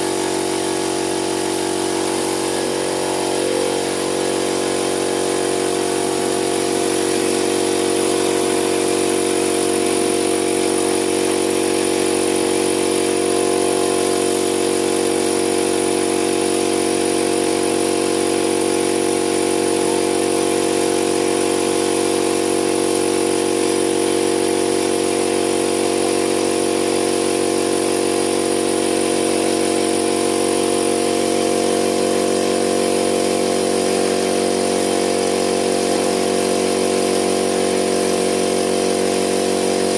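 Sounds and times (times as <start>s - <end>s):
motor running steadily: 0.0s - 39.9s.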